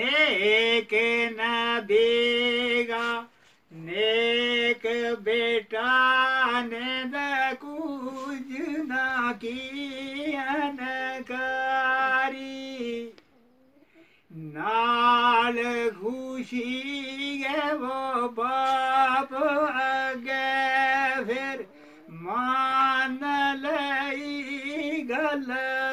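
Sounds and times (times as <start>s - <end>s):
man singing unaccompanied: 0.0s - 13.3s, 14.2s - 25.9s.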